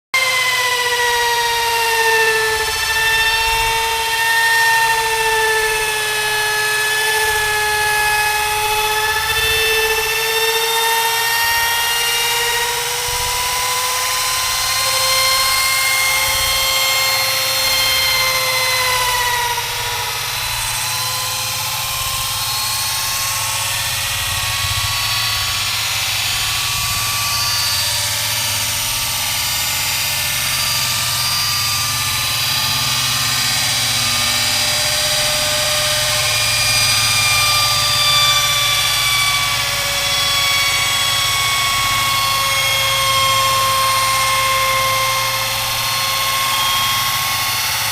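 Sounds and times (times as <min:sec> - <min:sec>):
woodworking machine whining: 0:00.2 - 0:47.9.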